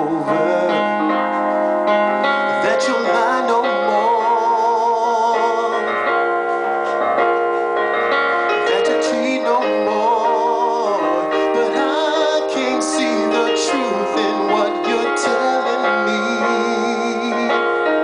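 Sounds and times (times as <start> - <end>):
man singing slow song: 0.0 - 1.5, 2.5 - 6.6, 8.6 - 18.0
electronic keyboard piano chords: 0.0 - 18.0.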